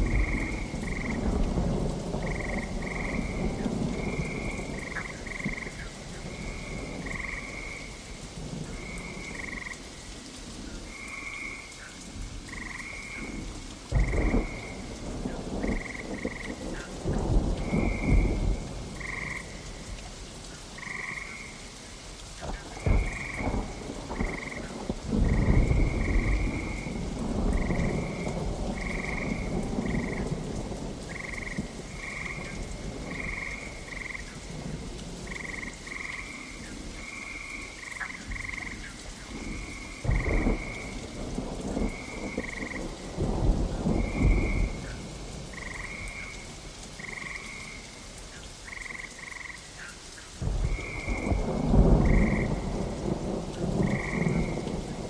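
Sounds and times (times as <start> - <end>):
thunder rumbling: 0.0 - 9.7, 12.4 - 20.0, 22.4 - 47.8, 50.4 - 55.0
frogs croaking: 0.0 - 55.0
steady rain: 0.0 - 55.0.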